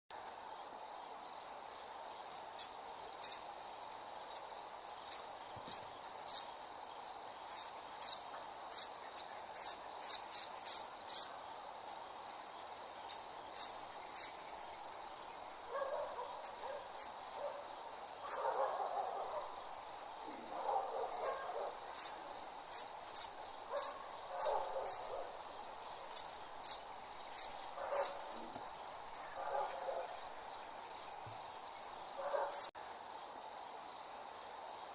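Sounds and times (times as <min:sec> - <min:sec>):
crickets trilling: 0:00.1 - 0:34.9.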